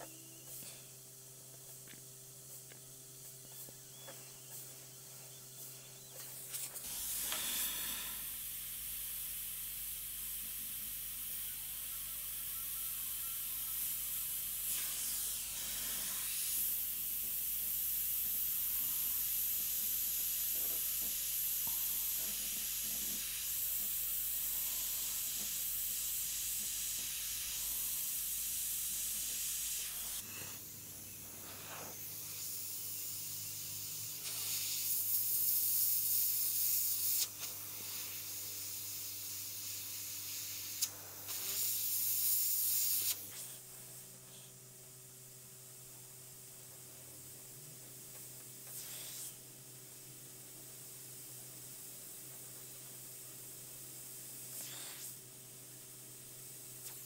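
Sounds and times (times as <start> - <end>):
airbrush hissing: 0.0 - 44.6, 45.2 - 57.0.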